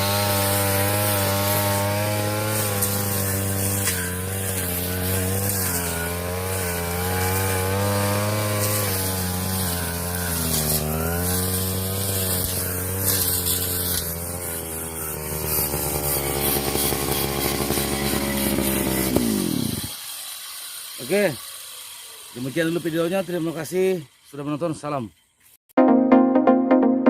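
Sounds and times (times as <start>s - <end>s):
brush cutter engine running: 0.0s - 25.0s.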